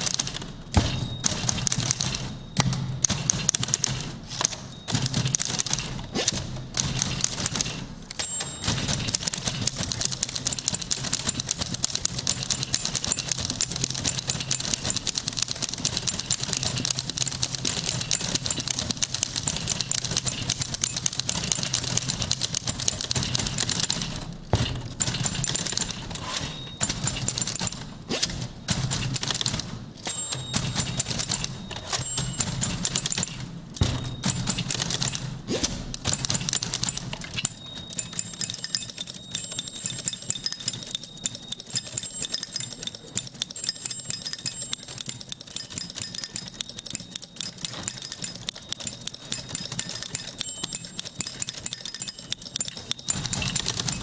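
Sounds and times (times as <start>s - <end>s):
typewriter carriage bell dings: 0.0s - 54.0s
typewriter keystrokes clattering: 0.0s - 54.0s.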